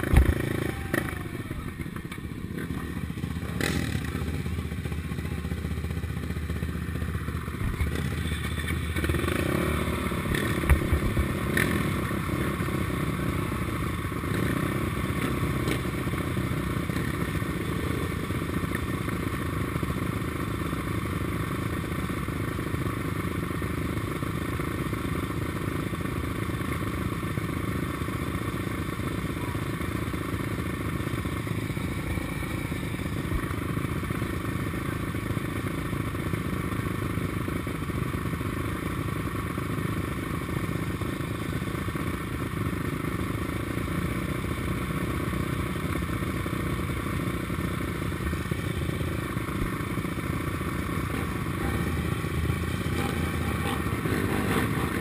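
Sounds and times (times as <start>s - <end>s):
other quad engines running: 0.0s - 55.0s
quad engine idling: 0.0s - 55.0s.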